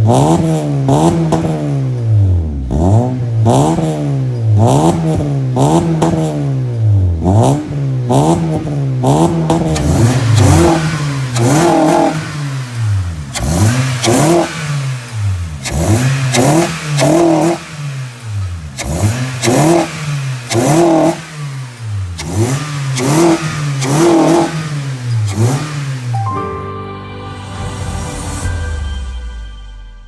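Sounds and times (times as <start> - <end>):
car engine revving in blips: 0.0 - 26.3.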